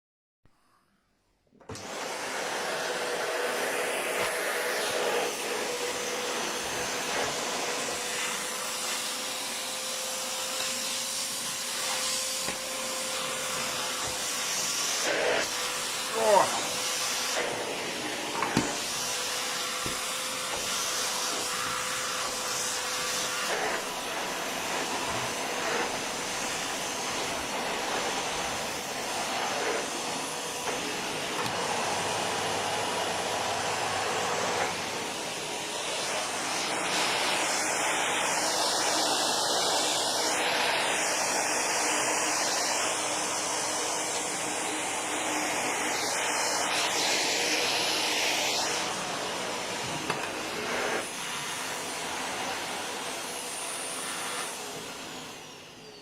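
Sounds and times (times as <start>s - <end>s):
vacuum cleaner running: 1.5s - 56.0s.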